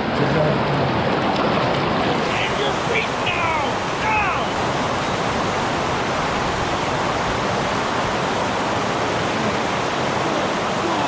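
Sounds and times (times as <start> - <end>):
fast-flowing stream water: 0.0 - 11.0.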